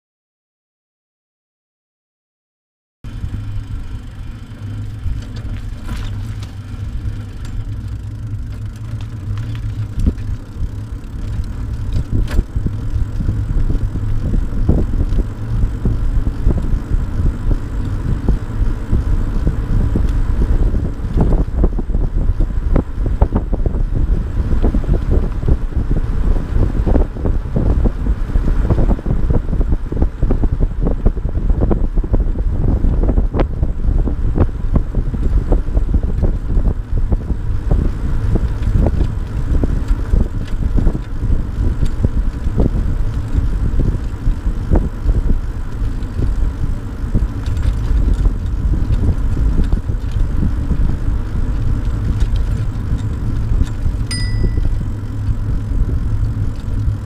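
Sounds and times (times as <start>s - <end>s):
wheels rolling on asphalt: 3.1s - 57.0s
wind buffeting microphone: 3.2s - 57.0s.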